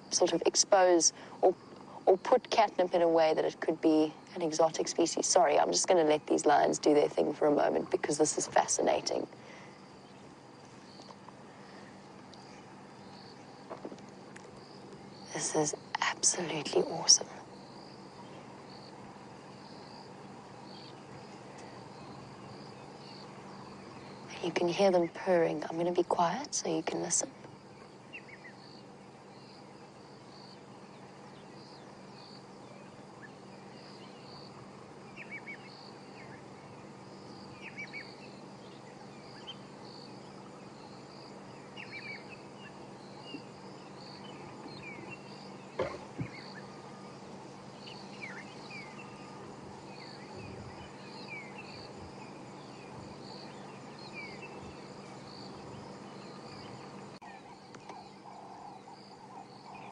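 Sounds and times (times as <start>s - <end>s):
insects chirping: 0.0s - 59.9s
low steady hum: 0.0s - 59.9s.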